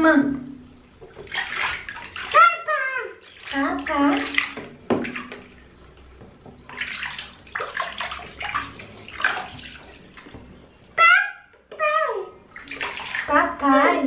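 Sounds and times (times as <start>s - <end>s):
water splashing in baby bathtub: 1.0s - 14.0s.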